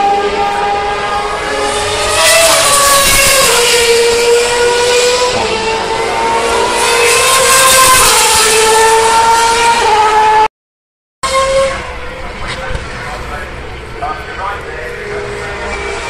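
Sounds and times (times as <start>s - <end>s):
racing car engines at high revs: 0.0s - 10.5s, 11.2s - 16.0s.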